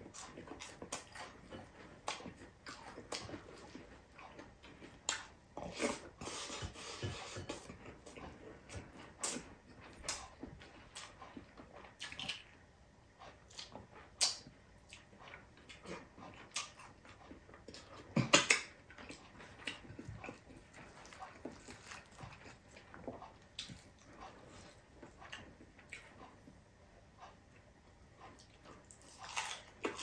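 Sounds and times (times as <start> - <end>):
chewing and lip smacks: 0.0 - 12.6, 13.2 - 26.5, 28.1 - 30.0.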